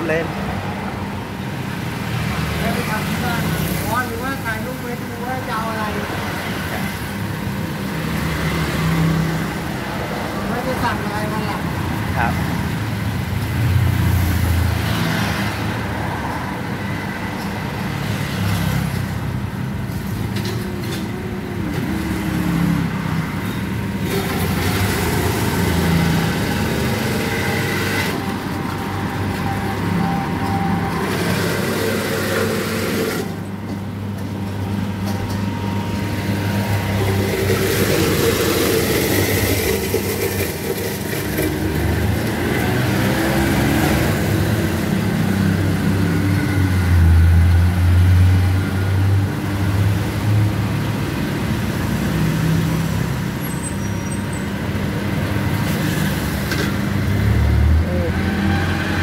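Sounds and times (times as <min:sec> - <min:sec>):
road traffic with engine hum: 0:00.0 - 0:59.0.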